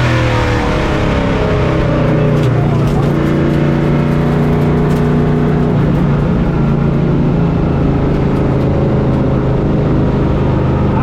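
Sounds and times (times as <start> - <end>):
truck engine at speed: 0.0 - 11.0.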